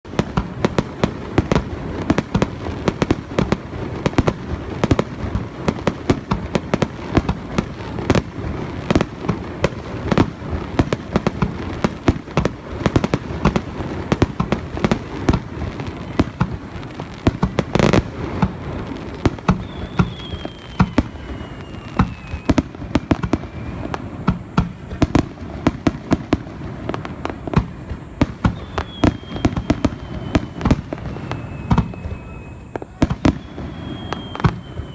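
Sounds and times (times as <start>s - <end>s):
fireworks bangs and crackles: 0.0s - 34.9s
falling firework whistle: 0.1s - 34.9s
loud firework blast: 0.1s - 34.9s.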